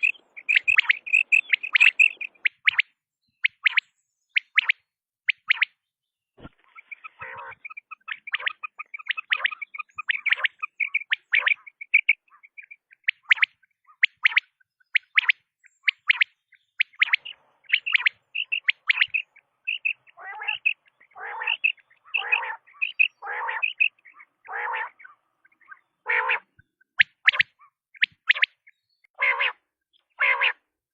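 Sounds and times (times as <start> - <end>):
rough quail calls: 0.0 - 5.7, 6.4 - 30.7
quail chirping: 0.0 - 5.8, 6.4 - 30.6.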